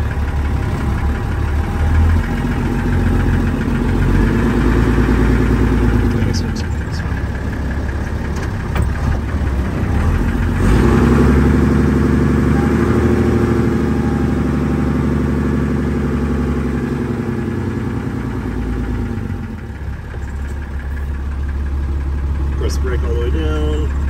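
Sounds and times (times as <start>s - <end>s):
diesel truck engine: 0.0s - 24.0s.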